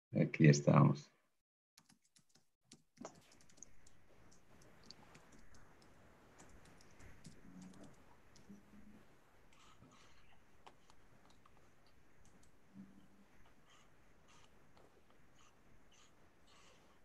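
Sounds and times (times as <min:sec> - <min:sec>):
small irregular clicks: 0:01.8 - 0:17.0
faint room noise: 0:03.0 - 0:17.0.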